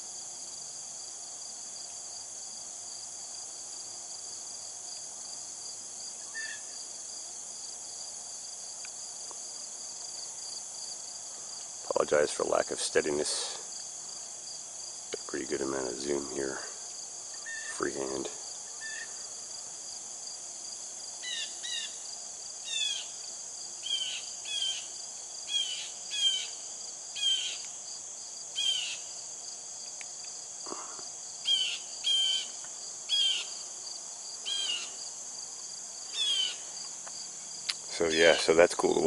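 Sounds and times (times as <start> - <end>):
insect chorus: 0.0 - 39.0.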